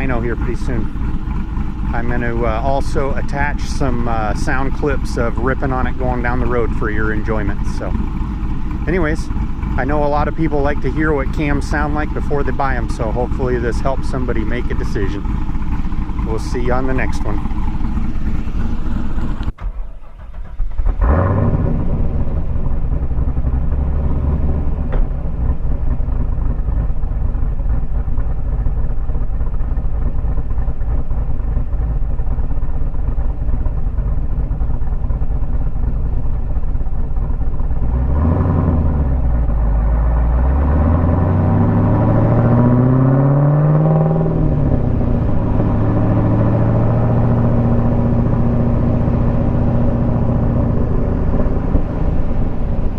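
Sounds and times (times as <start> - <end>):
car engine running: 0.0 - 52.9.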